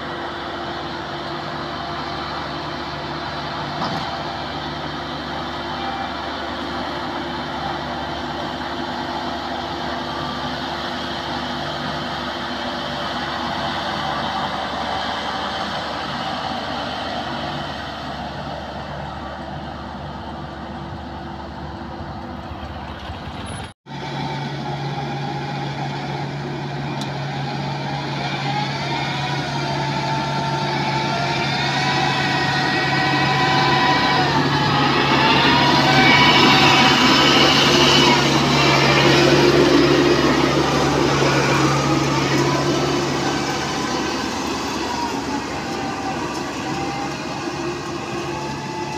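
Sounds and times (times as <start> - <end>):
combine harvester engine running: 0.0 - 48.9.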